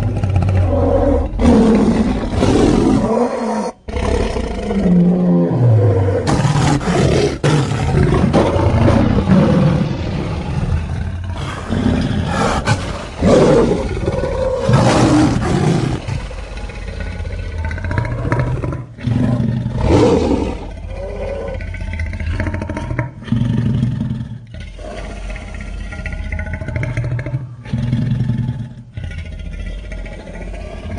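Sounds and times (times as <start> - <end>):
creature roars and growls: 0.0 - 30.9.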